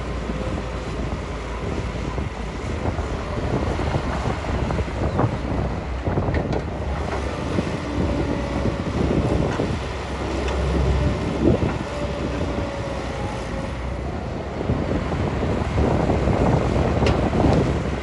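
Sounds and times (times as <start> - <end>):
diesel engine running: 0.0 - 18.0
wind buffeting microphone: 0.0 - 18.0.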